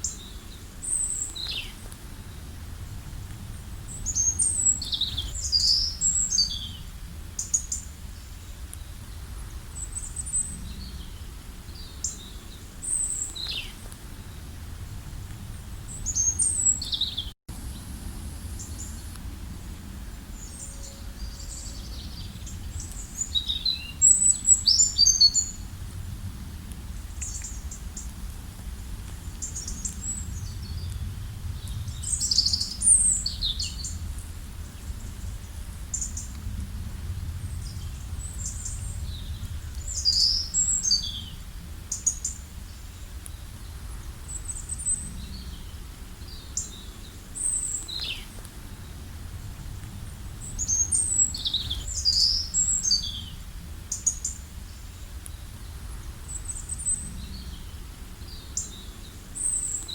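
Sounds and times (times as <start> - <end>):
low background rumble: 0.0 - 59.9
songbirds chirping and trilling: 0.0 - 59.9.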